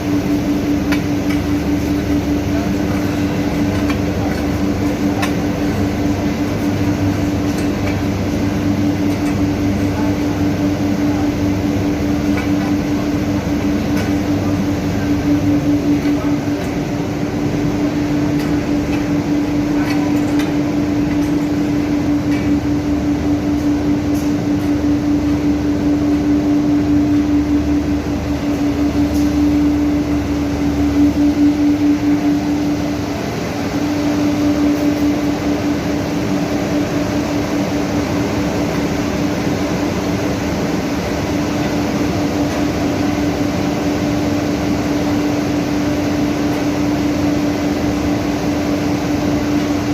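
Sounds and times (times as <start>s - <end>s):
loud machinery hum: 0.0s - 49.9s.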